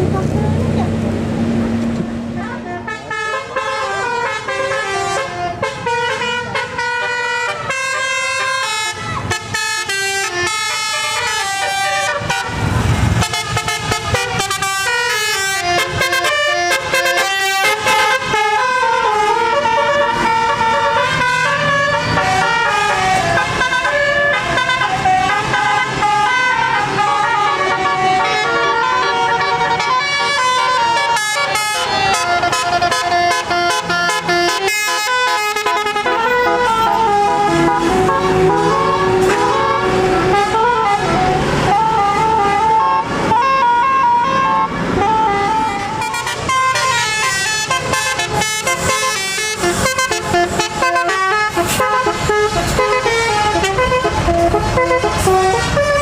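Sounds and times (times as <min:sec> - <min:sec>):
bus horn playing a tune: 0:02.2 - 0:56.0.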